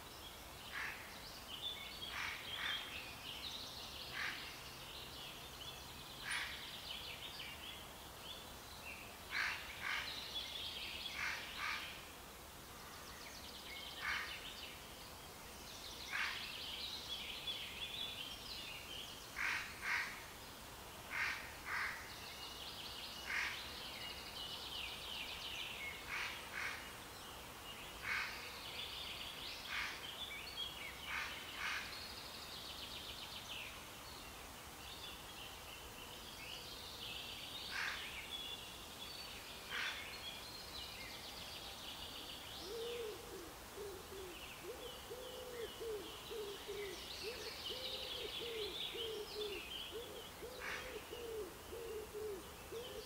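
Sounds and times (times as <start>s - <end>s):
faint outdoor hiss: 0.0s - 53.0s
songbirds chirping and trilling: 0.0s - 53.0s.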